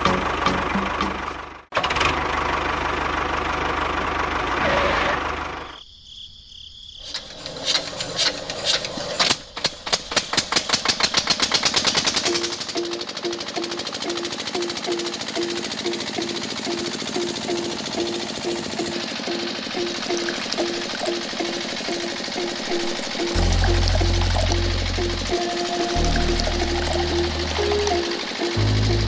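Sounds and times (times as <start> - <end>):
small engine running: 0.0 - 5.8, 7.1 - 29.0.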